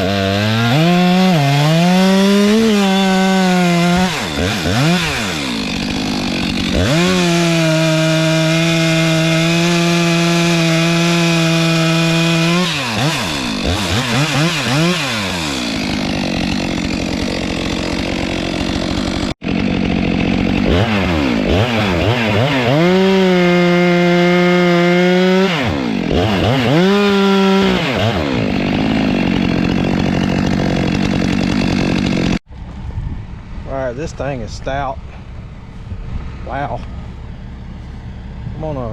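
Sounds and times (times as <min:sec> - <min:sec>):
chainsaw revving: 0:00.0 - 0:32.4.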